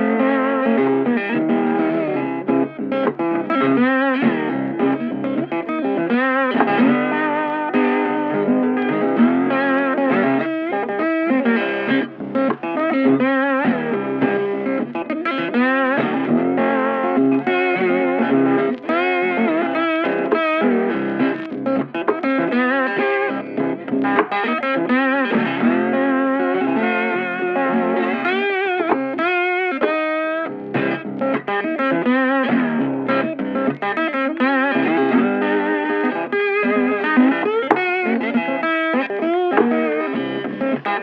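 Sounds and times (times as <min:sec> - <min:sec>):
guitar instrumental music: 0:00.0 - 0:41.0.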